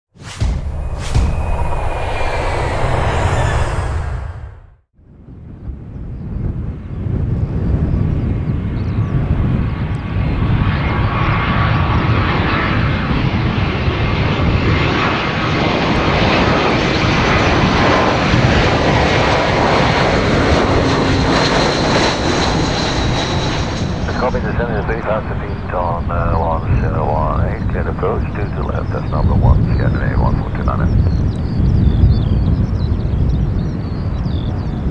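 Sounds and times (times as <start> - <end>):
jet airliner passing: 0.2 - 5.4, 6.8 - 34.9.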